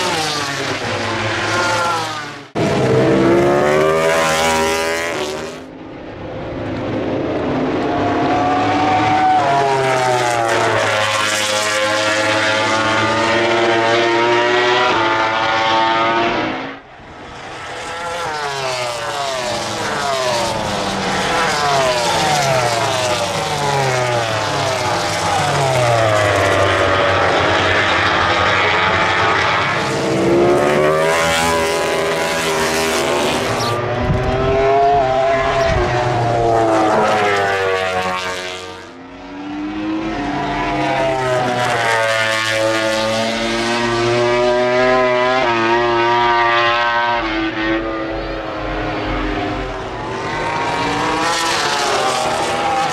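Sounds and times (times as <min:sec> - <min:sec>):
racing motorcycle engines passing: 0:00.0 - 0:52.9.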